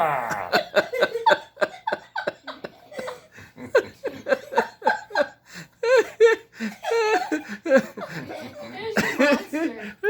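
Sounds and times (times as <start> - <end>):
people laughing: 0.3 - 10.0.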